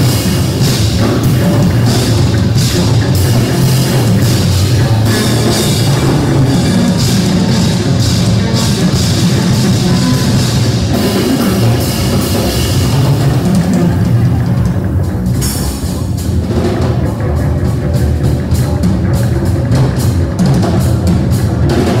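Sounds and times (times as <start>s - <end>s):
amplified electric guitar: 0.0s - 22.0s
drum kit cymbal strokes: 0.0s - 22.0s
live rock band music: 0.0s - 22.0s.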